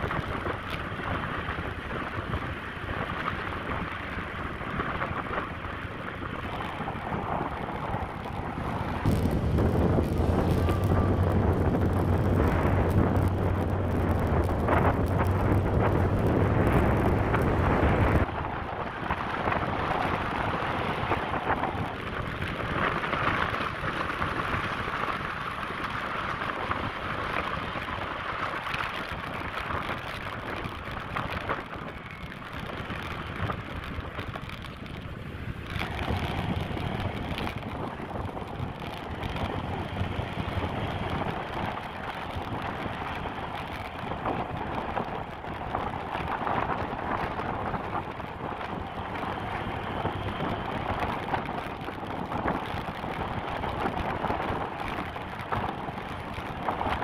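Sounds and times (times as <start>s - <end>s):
wind noise on microphone: 0.0s - 57.0s
motorcycle engine: 5.2s - 23.3s, 28.9s - 57.0s.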